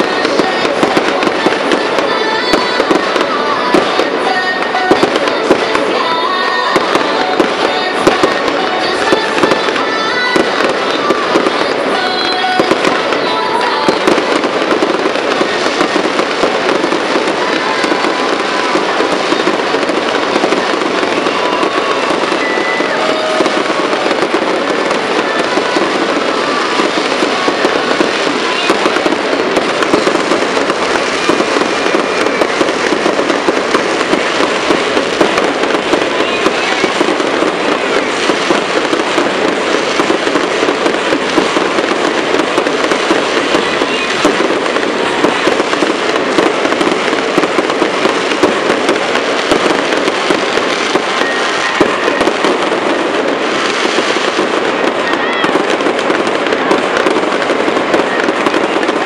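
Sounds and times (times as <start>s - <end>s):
dense crackle of small pops: 0.0s - 59.0s
firework fountains spraying: 0.0s - 59.0s
firework shells bursting: 0.0s - 59.0s.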